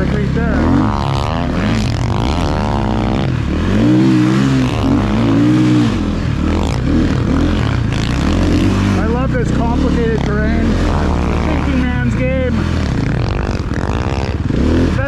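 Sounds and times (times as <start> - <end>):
snowbike engine revving: 0.0 - 15.0.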